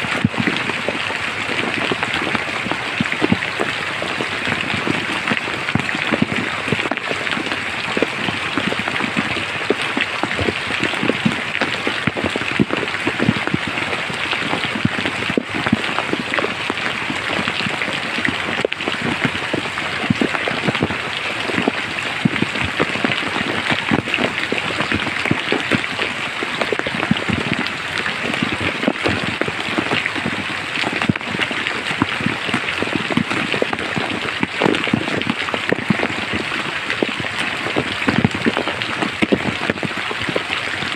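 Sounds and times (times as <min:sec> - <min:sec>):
rain falling in a forest: 0:00.0 - 0:40.9
raindrop hits: 0:00.0 - 0:40.9.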